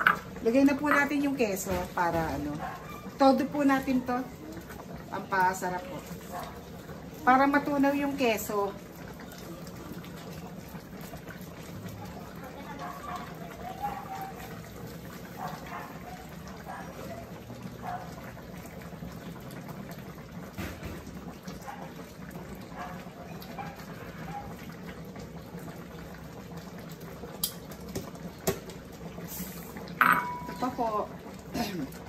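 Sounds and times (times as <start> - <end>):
sauce simmering and bubbling: 0.0 - 32.0.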